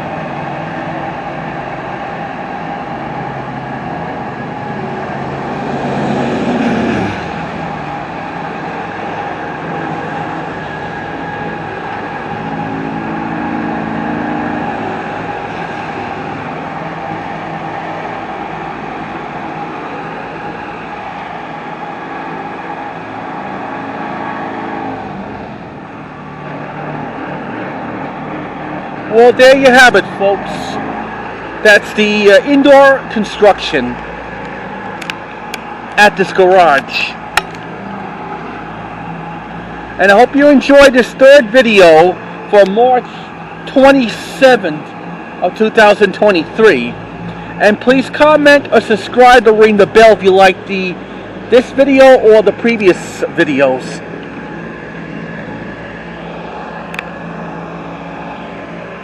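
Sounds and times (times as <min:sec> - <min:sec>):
engines and machinery running: 0:00.0 - 0:59.0.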